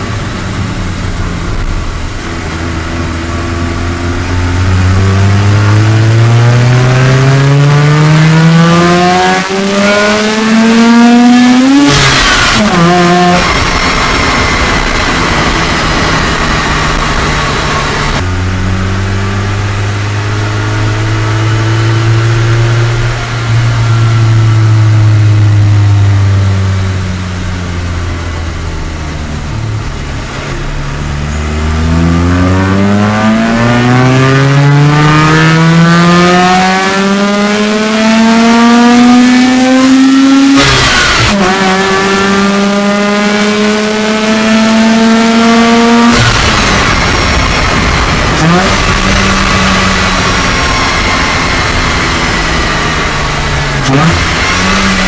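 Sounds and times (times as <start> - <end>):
rotary engine revving: 3.4 - 23.3, 30.5 - 55.0.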